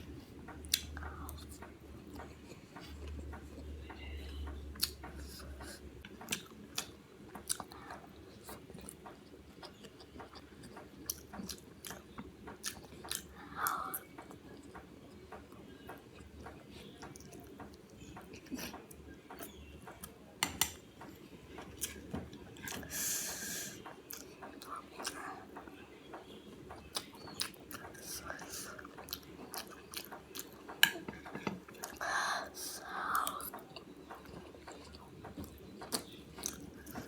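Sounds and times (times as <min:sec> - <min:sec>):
chewing food: 0:00.2 - 0:20.1, 0:21.0 - 0:37.0.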